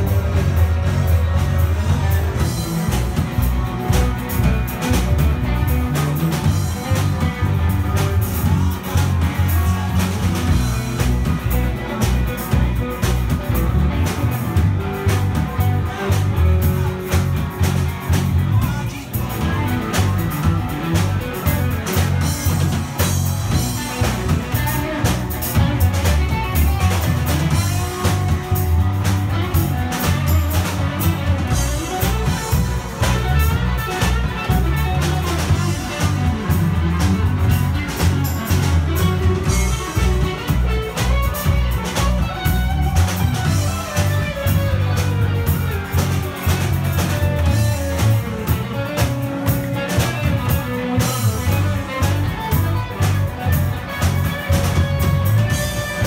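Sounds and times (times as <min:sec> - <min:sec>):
live band playing instrumental: 0:00.0 - 0:56.0.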